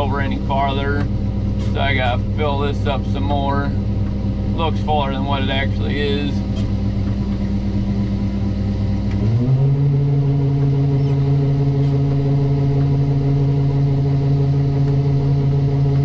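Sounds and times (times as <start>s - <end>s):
diesel engine revving up: 0.0s - 16.0s.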